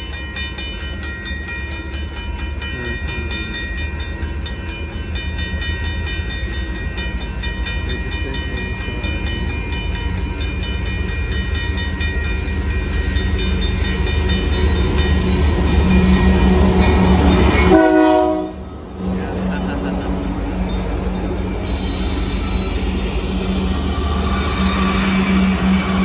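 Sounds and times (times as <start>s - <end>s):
crossing bell ringing: 0.0s - 26.0s
diesel locomotive engine rumble: 0.0s - 26.0s.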